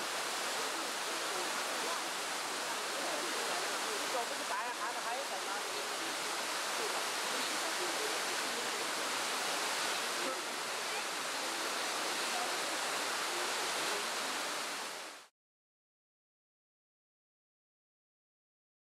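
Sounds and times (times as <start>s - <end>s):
waterfall rushing over rocks: 0.0s - 15.3s.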